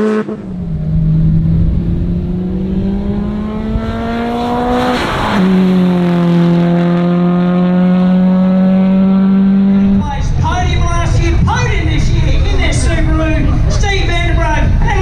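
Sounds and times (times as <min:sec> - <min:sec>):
car engine accelerating hard: 0:00.0 - 0:13.3.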